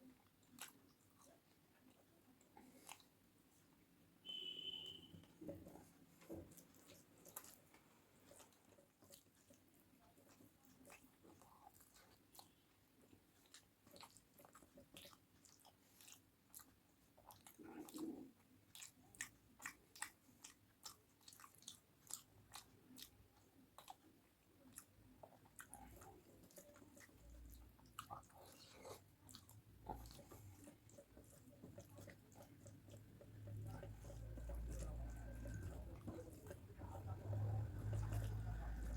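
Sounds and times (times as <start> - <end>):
person chewing food: 0.0 - 3.7, 4.3 - 38.9.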